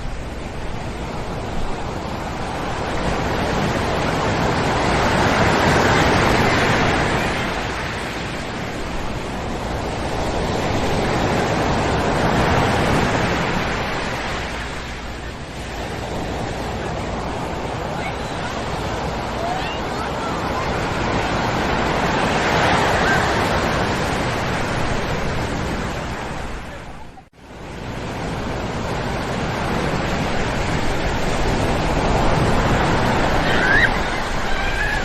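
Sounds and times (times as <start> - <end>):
surf breaking on sand beach: 0.0 - 26.9, 27.5 - 35.0.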